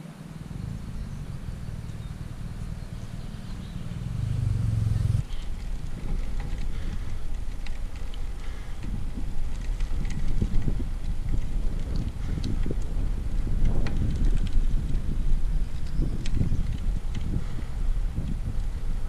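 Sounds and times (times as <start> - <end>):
bicycle road noise on asphalt: 0.0 - 19.0
wind rumbling on microphone: 0.0 - 19.0.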